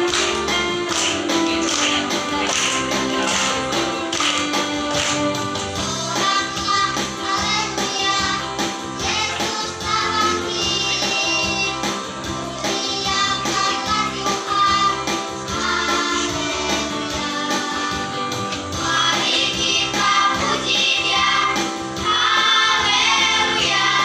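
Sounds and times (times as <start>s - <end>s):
children's choir singing: 0.0s - 24.0s
instrumental accompaniment with beat: 0.0s - 24.0s.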